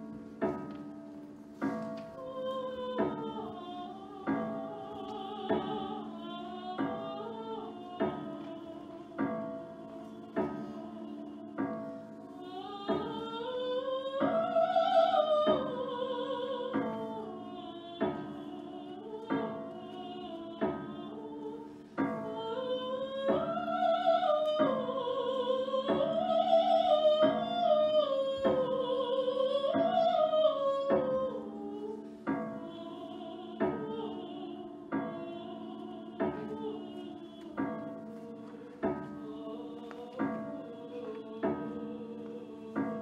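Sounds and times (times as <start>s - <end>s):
operatic tenor singing: 2.1s - 43.0s.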